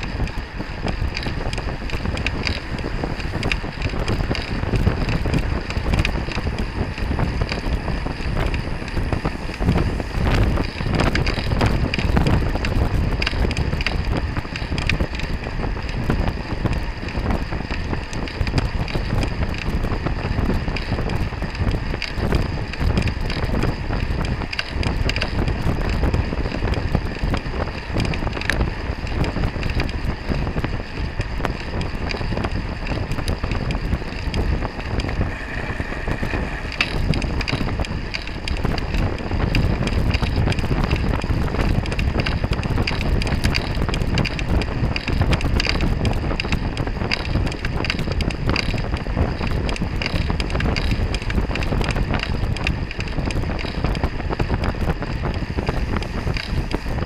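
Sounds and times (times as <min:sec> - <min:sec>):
bicycle rolling road noise: 0:00.0 - 0:57.0
wind rush on microphone: 0:00.0 - 0:57.0.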